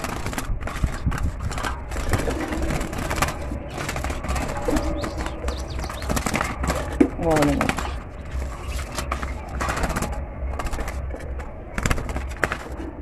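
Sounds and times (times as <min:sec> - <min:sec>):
wire cage rattling: 0:00.0 - 0:13.0.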